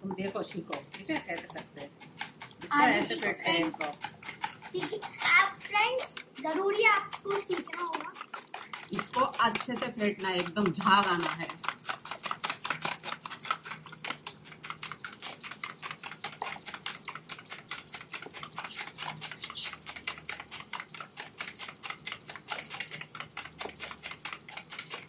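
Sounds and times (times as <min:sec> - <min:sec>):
wire whisk beating eggs in bowl: 0:00.0 - 0:25.0.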